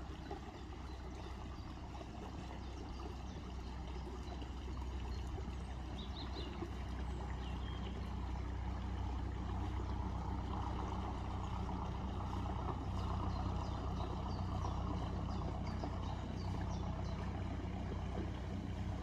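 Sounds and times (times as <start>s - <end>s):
boat engine droning: 0.0s - 19.0s
water wash: 0.0s - 19.0s.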